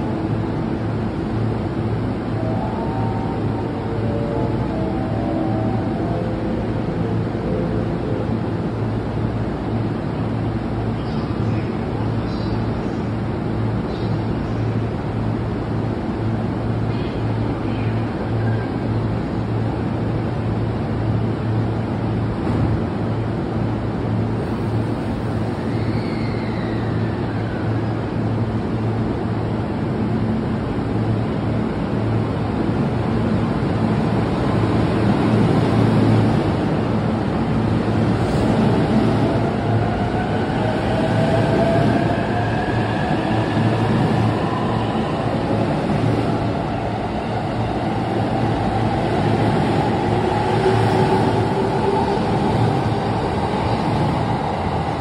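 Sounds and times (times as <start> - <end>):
electric train humming: 0.0 - 55.0.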